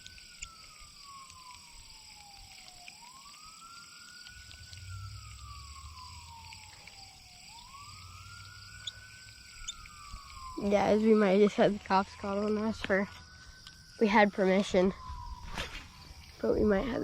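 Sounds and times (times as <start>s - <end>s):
distant siren wailing: 0.0s - 17.0s.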